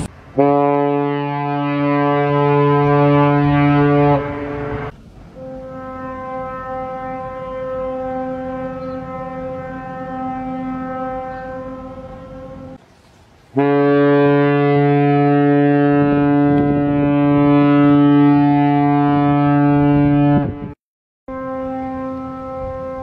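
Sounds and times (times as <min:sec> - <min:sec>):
deep ship's horn blast: 0:00.0 - 0:12.8, 0:13.5 - 0:23.0
ship's horn blast: 0:00.0 - 0:12.8, 0:13.5 - 0:23.0.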